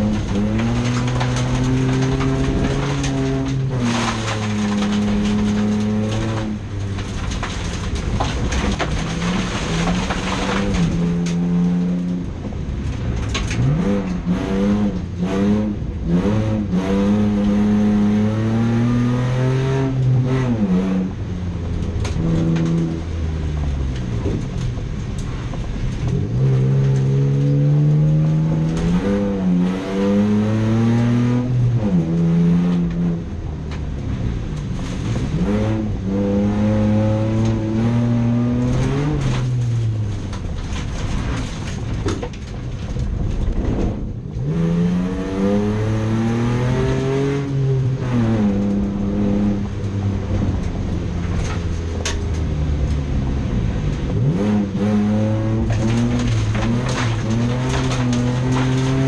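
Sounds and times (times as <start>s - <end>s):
racing car engine revving: 0.0s - 12.6s, 13.2s - 25.3s, 25.9s - 33.5s, 34.5s - 41.9s, 43.4s - 59.0s.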